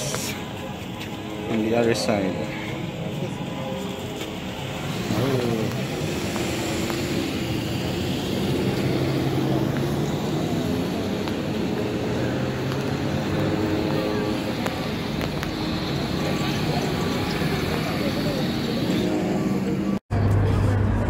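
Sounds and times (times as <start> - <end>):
car driving: 0.0 - 21.0
low hum: 0.0 - 21.0.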